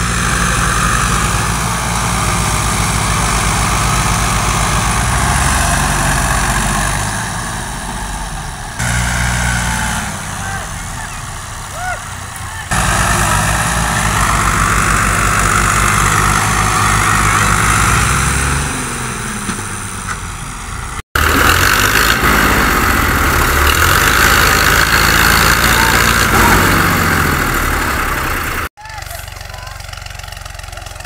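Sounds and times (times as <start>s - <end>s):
tractor diesel engines revving: 0.0s - 31.0s.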